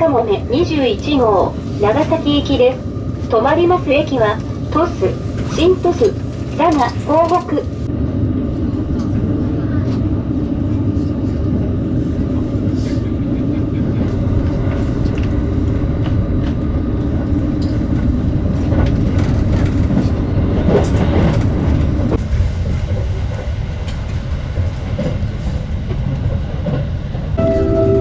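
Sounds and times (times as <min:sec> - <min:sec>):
train rumbling inside carriage: 0:00.0 - 0:28.0.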